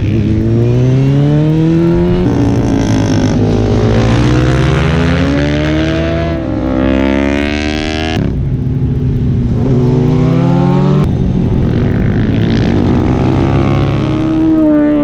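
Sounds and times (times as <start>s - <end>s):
motorcycle engines accelerating hard: 0.0s - 15.0s.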